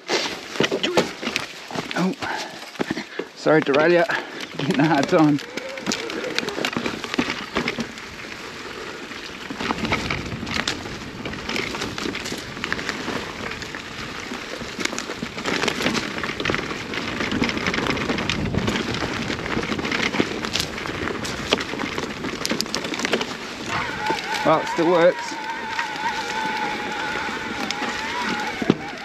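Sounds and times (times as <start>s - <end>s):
bike tyres crackling on gravel: 0.0s - 29.0s
bike knocks and rattles: 0.2s - 29.0s.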